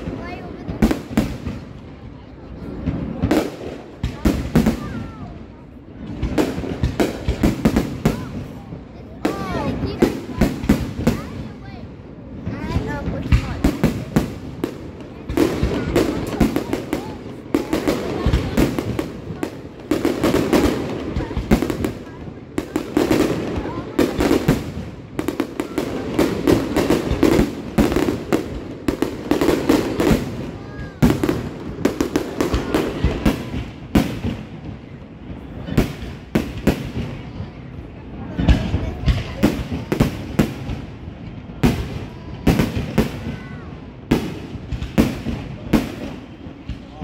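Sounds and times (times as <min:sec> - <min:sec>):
fireworks bangs: 0:00.0 - 0:47.0.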